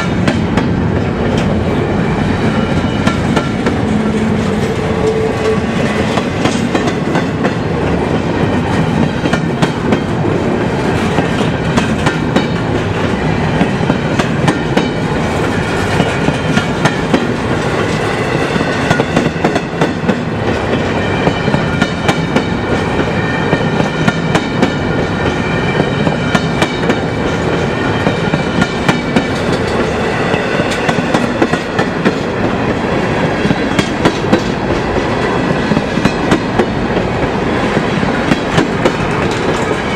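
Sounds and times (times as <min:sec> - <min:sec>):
wheels ringing on rails: 0:00.0 - 0:39.9
train wheels clicking over rail joints: 0:02.5 - 0:39.9.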